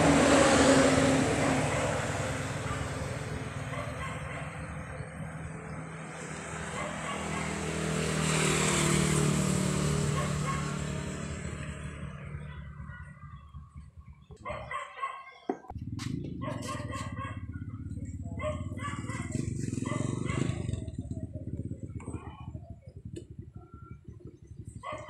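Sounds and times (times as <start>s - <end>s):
vehicle passing by: 0.0s - 13.9s, 15.7s - 23.0s.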